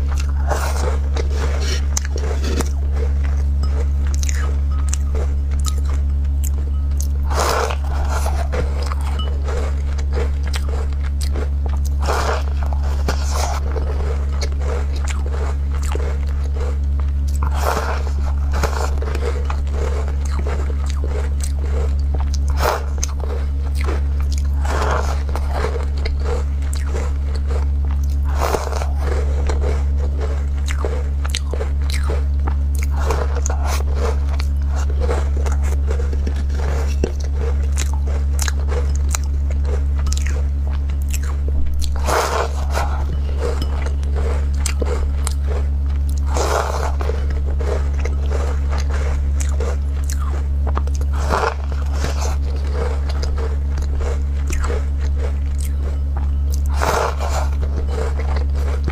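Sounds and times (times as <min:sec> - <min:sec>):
chewing clicks: 0:00.0 - 0:58.9
crunchy cookie bites: 0:00.0 - 0:58.9.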